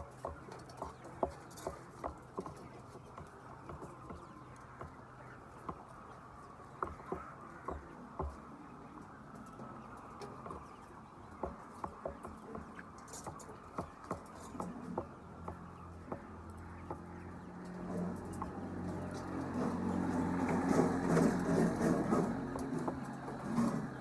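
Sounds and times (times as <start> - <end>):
sharp taps: 0.0 - 8.6, 9.4 - 20.7
chickens clucking: 0.0 - 24.0.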